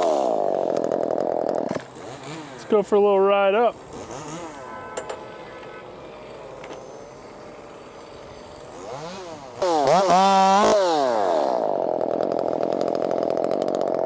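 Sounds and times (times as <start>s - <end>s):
chainsaw engine revving: 0.0s - 5.0s, 6.3s - 14.0s.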